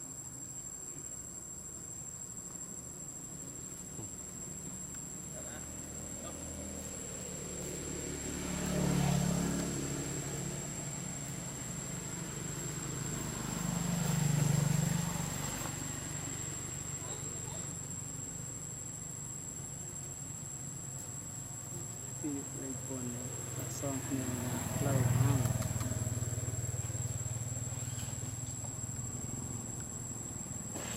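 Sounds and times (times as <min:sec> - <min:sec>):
high insect drone: 0:00.0 - 0:30.9
passing motor vehicle engines: 0:04.0 - 0:30.9.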